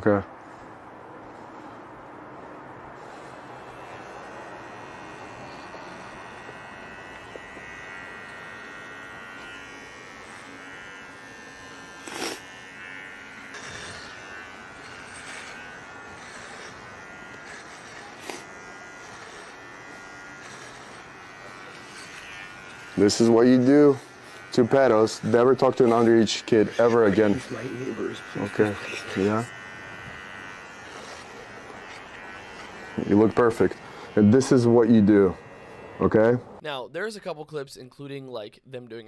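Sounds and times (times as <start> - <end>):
electric hair clippers buzzing: 2.8 - 36.6.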